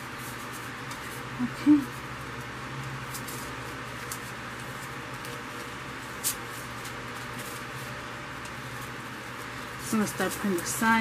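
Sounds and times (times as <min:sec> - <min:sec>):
background hiss and hum: 0:00.0 - 0:11.0.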